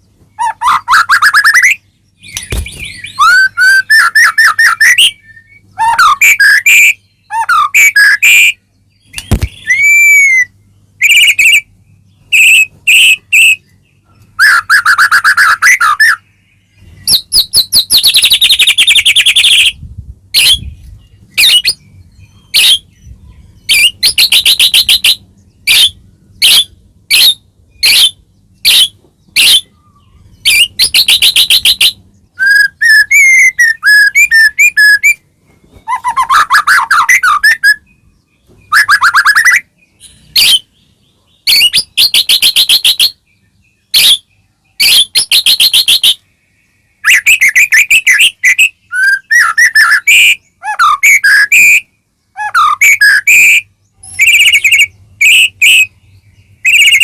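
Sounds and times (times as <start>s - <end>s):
bird whistled phrases: 0.4s - 11.7s, 12.3s - 13.6s, 14.4s - 16.3s, 17.0s - 19.8s, 20.4s - 37.9s, 38.6s - 40.7s, 41.5s - 43.2s, 43.9s - 46.2s, 47.0s - 56.0s, 56.6s - 57.0s.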